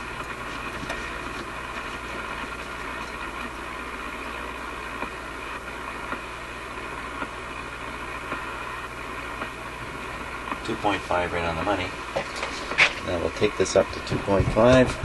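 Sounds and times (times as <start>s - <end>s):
low steady hum: 0.0s - 15.0s
radio static and hiss: 0.0s - 15.0s.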